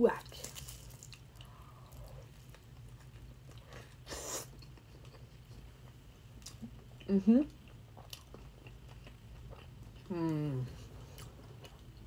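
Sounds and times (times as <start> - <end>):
person chewing food: 0.4 - 12.0.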